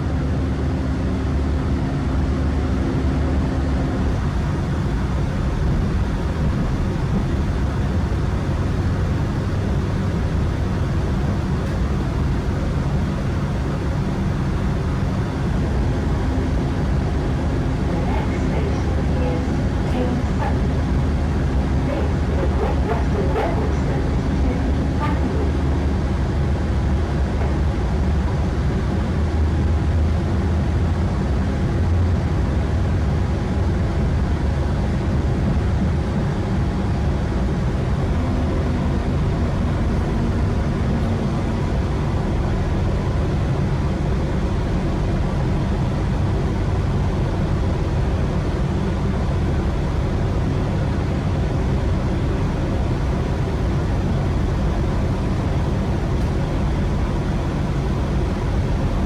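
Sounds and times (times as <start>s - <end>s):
faint steady whine: 0.0s - 59.0s
train rumble and rail noise: 0.0s - 59.0s.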